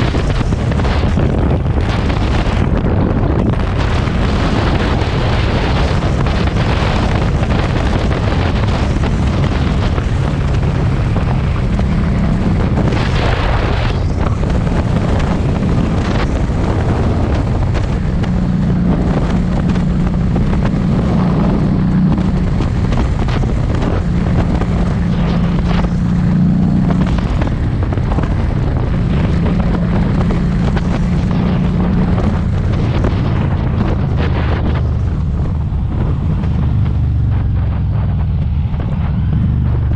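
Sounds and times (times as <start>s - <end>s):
motorcycle exhaust note: 0.0s - 39.9s
wind buffeting microphone: 0.0s - 39.9s.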